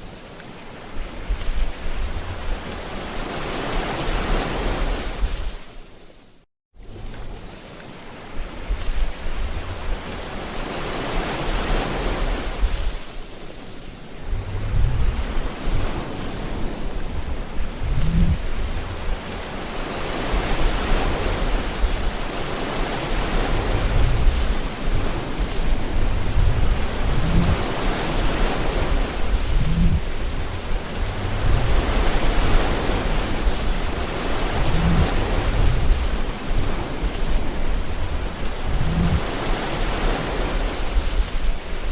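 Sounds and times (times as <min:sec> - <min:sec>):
ocean waves breaking: 0:00.0 - 0:05.9, 0:06.8 - 0:41.9.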